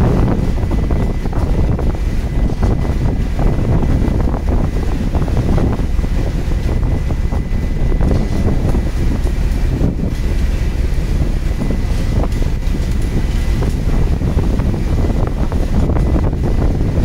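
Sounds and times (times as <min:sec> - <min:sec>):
fishing boat engine rumble: 0:00.0 - 0:17.0
wind buffeting microphone: 0:00.0 - 0:17.0.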